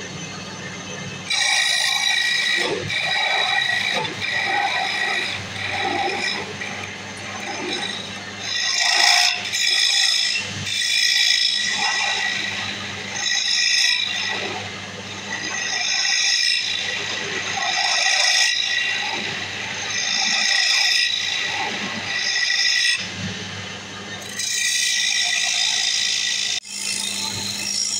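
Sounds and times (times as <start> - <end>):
wood lathe humming: 1.3 - 23.2, 24.2 - 27.9
chisel scraping spinning wood: 1.3 - 23.4, 24.2 - 27.9.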